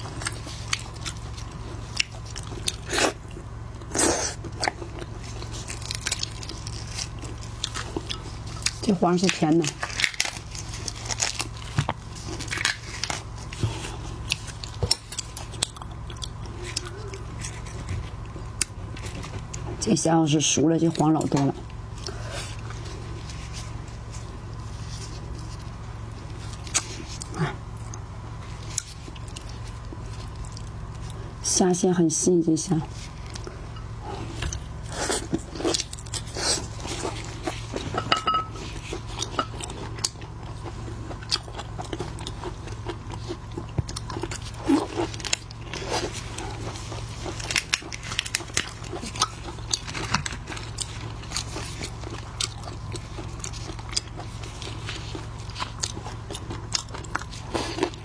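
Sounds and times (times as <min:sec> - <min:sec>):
crunchy chewing of shrimp: 0:00.0 - 0:19.8, 0:21.5 - 0:31.4, 0:32.8 - 0:58.0.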